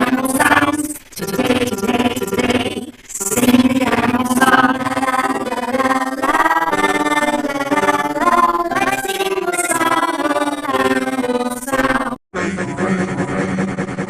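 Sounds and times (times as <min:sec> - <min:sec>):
children's song music: 0:00.0 - 0:14.0.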